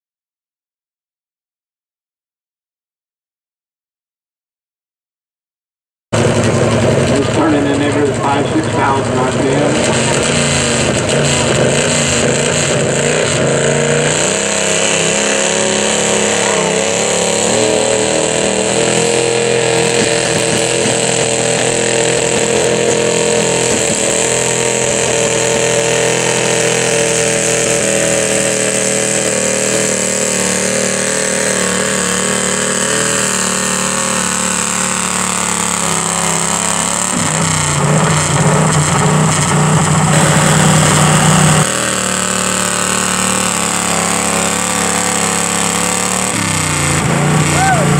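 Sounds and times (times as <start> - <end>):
tractor engine running under load: 6.2 - 47.9.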